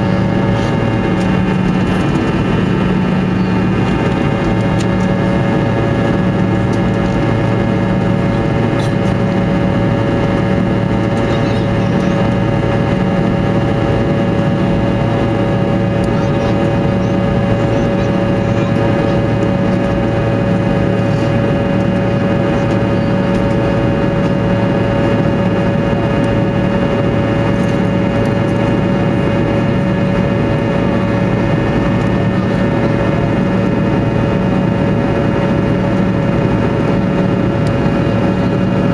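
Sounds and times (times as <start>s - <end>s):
engine whining tones: 0.0s - 38.9s
jet engine cabin drone: 0.0s - 38.9s.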